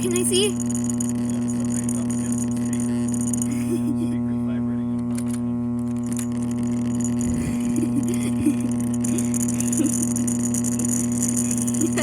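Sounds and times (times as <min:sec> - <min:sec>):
buzzy electrical hum: 0:00.0 - 0:12.0.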